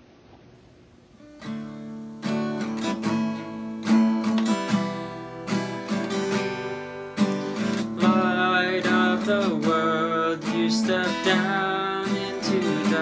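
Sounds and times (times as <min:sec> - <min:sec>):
acoustic guitar strumming chords: 0:01.2 - 0:13.0.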